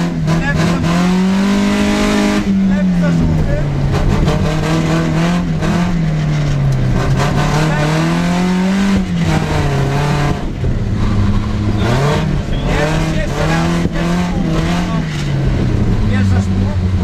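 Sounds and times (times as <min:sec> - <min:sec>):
car engine revving hard: 0:00.0 - 0:17.0
tyre and road noise: 0:00.0 - 0:17.0.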